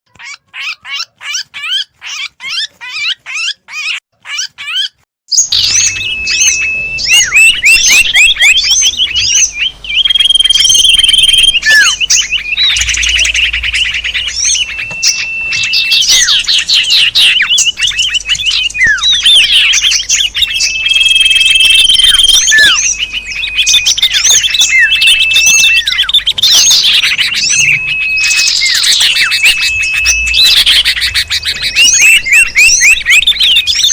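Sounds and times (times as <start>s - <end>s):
bird rapid chirps: 0.1s - 33.9s
small birds chorus twittering: 0.1s - 33.9s.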